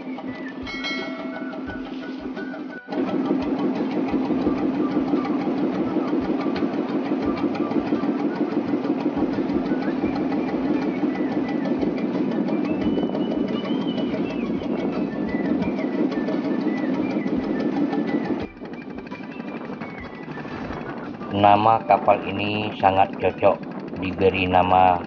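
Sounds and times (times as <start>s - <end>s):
boat engine knocking: 0.0s - 25.0s.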